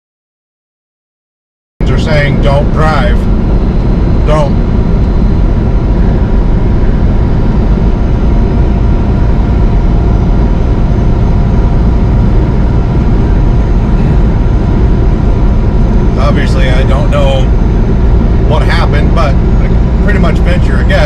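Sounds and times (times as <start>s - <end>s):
faint steady tones: 1.8s - 21.0s
road rumble: 1.8s - 21.0s
truck engine drone: 1.8s - 21.0s.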